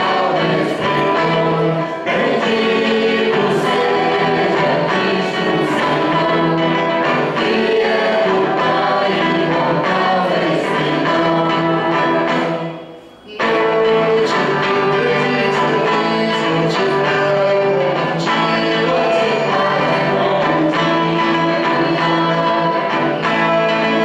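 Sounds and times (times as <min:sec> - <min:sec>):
choir singing a hymn: 0:00.0 - 0:24.0
instrumental accompaniment: 0:00.0 - 0:24.0.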